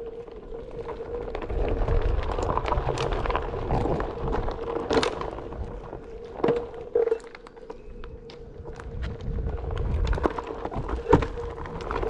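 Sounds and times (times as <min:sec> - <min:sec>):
grit clicks and rattles: 0:00.0 - 0:12.0
skateboard wheels rolling on dirt: 0:00.0 - 0:12.0.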